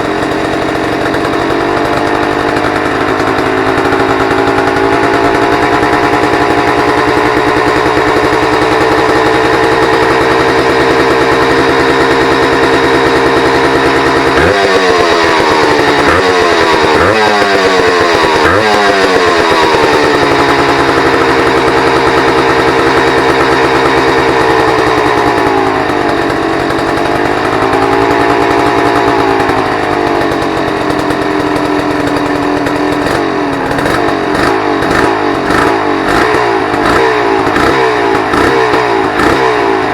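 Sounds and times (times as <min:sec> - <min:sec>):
engine revving: 0:00.0 - 0:39.9
motorcycle engine idling high: 0:00.0 - 0:39.9.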